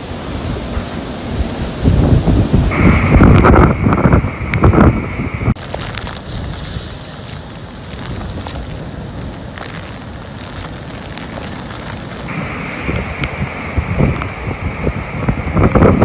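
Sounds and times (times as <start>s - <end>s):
heavy surf breaking on rocks: 0.0s - 16.0s
strong wind buffeting microphone: 0.0s - 16.0s.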